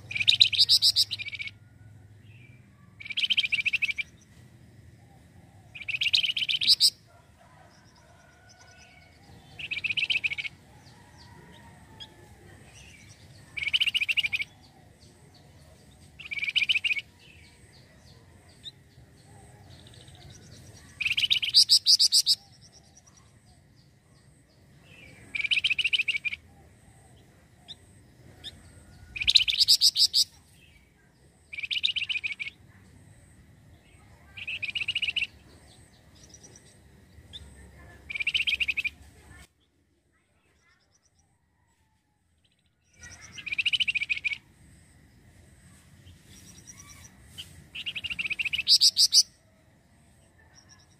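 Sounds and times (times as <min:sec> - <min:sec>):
songbird chattering trills: 0:00.0 - 0:01.6, 0:02.3 - 0:04.4, 0:05.0 - 0:07.1, 0:08.9 - 0:39.7, 0:42.5 - 0:49.4.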